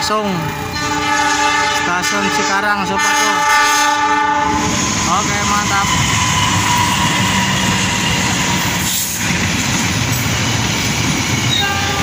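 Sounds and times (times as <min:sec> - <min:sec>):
train rumbling and rattling: 0:00.0 - 0:12.0.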